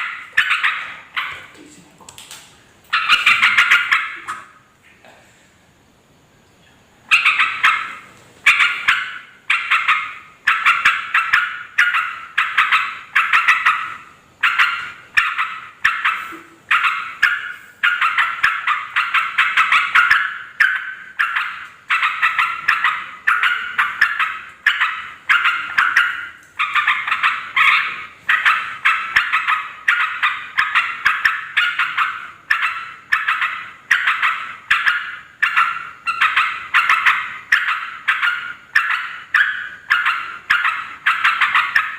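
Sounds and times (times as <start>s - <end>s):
bird chattering calls: 2.9s - 4.7s, 7.1s - 41.9s.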